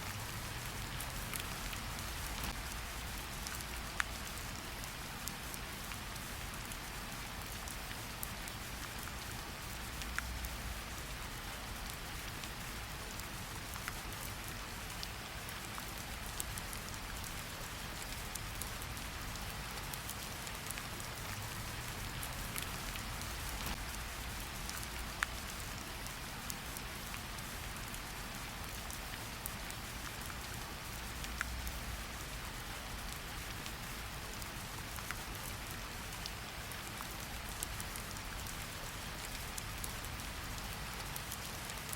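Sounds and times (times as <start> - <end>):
rain hiss: 0.0 - 41.9.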